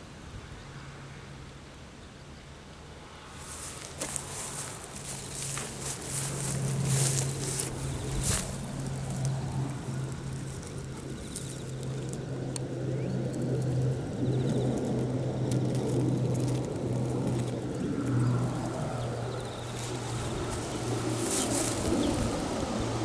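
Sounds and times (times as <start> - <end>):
low engine hum: 3.3 - 23.0
wind buffeting microphone: 3.4 - 23.0.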